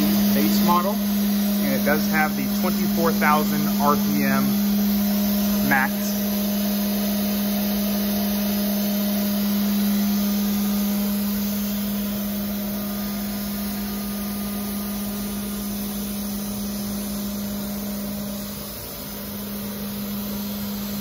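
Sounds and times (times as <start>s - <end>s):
spindle motor humming: 0.0s - 21.0s.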